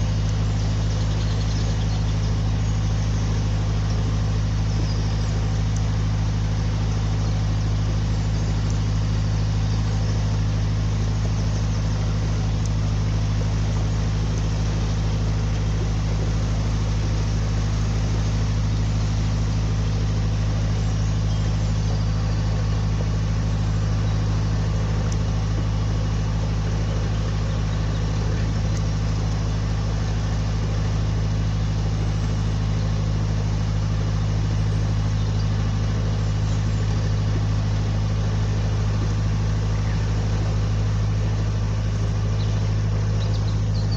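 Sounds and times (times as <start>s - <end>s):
boat diesel engine humming: 0.0s - 43.9s.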